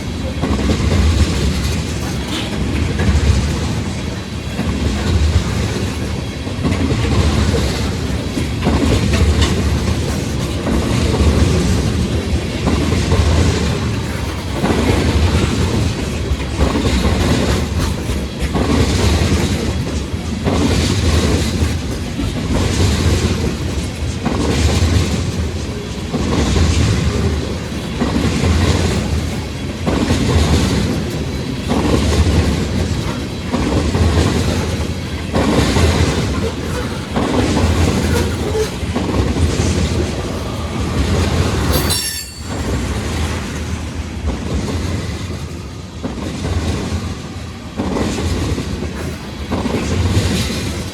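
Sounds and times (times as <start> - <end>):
train wheels clattering over rail joints: 0.0 - 50.9.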